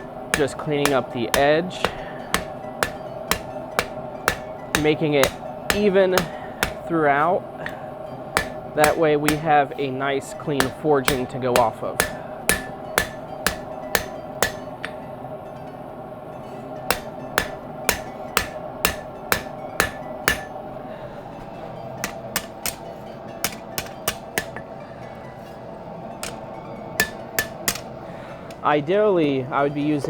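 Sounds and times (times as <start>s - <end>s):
hammer striking metal on anvil: 0.0s - 15.8s, 16.4s - 28.6s.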